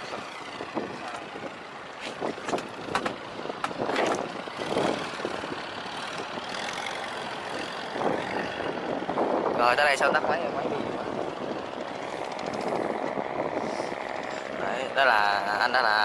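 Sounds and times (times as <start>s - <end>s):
boat engine running: 0.0s - 16.0s
water noise: 0.0s - 16.0s
wind noise: 0.0s - 16.0s.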